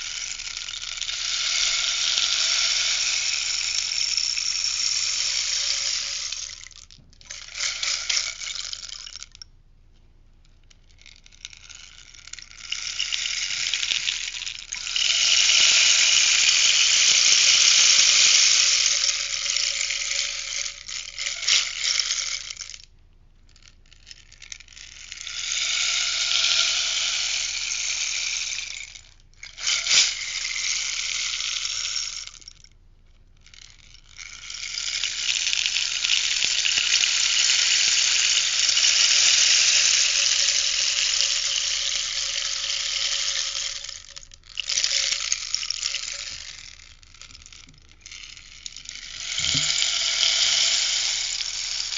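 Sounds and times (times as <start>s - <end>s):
rainstick beads trickling: 0.0s - 9.5s, 10.6s - 22.9s, 23.5s - 32.7s, 33.4s - 51.9s.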